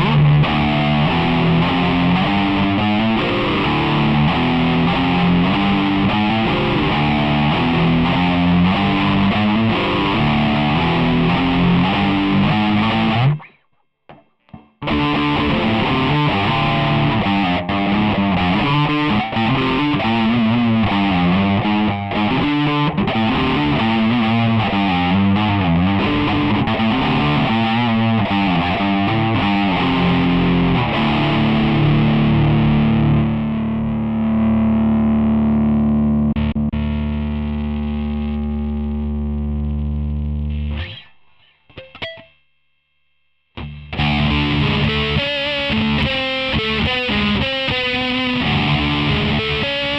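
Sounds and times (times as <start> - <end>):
distorted electric guitar riff: 0.0 - 49.9.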